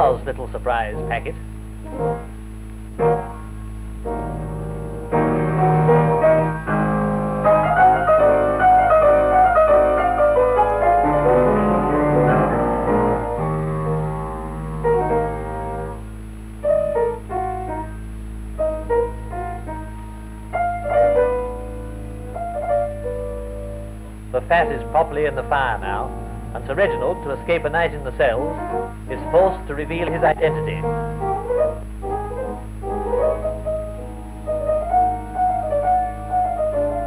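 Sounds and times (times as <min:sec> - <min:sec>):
piano music: 0:00.9 - 0:01.3, 0:01.9 - 0:02.4, 0:03.0 - 0:37.0.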